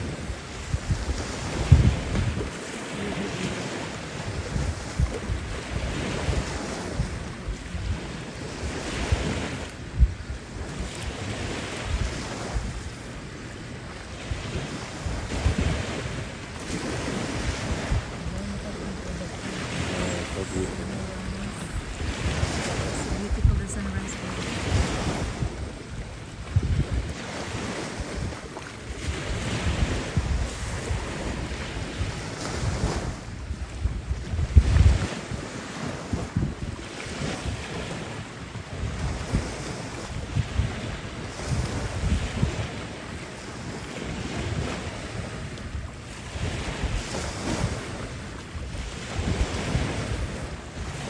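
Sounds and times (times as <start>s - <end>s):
waves washing against rocks: 0.0s - 51.0s
wind buffeting microphone: 0.0s - 51.0s.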